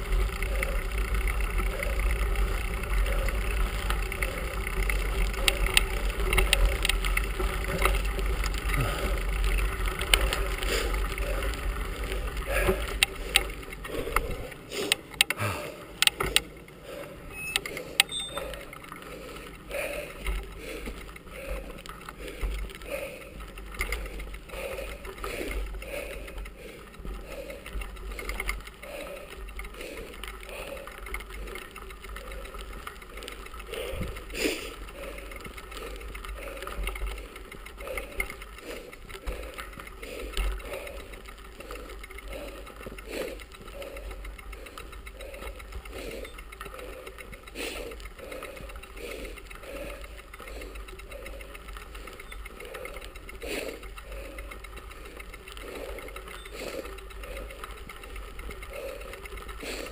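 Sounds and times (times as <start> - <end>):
bicycle drivetrain pedalling noise: 0.0 - 59.9
tyres on gravel: 0.0 - 59.9
sharp clicks: 3.2 - 59.9.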